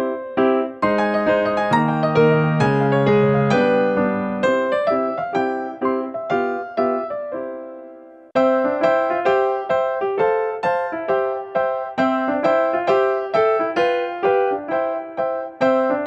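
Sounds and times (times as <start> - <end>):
piano melody: 0.0 - 16.0.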